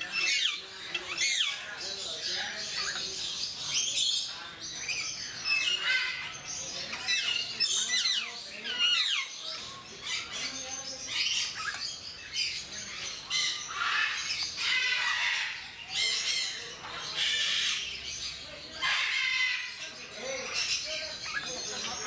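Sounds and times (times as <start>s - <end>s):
parrots squawking: 0.0s - 22.0s.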